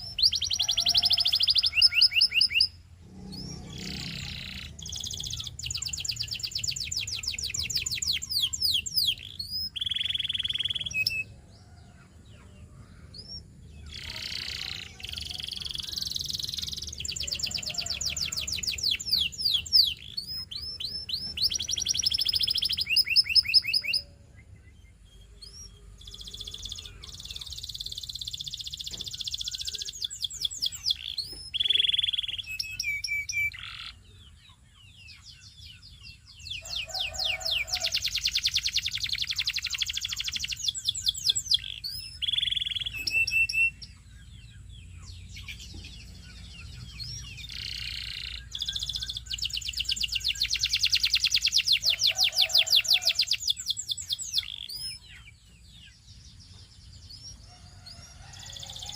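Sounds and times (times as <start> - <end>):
canary singing trills and chirps: 0.0 - 58.9.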